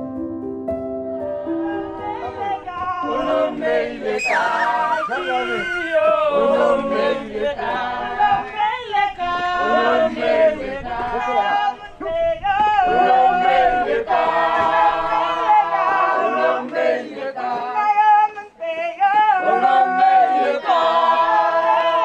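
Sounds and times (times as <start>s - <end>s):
group singing a cappella: 1.4s - 22.0s.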